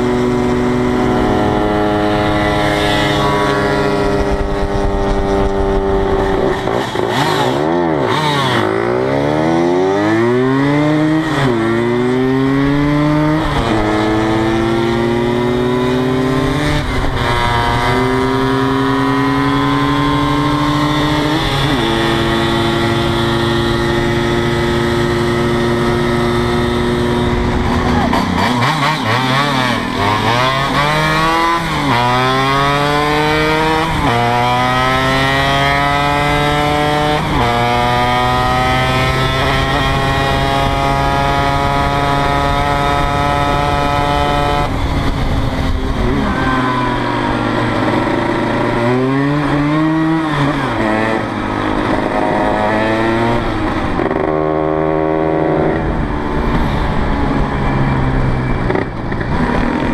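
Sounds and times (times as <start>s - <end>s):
engine revving: 0.0s - 59.9s
two-stroke scooter engine accelerating: 0.0s - 59.9s.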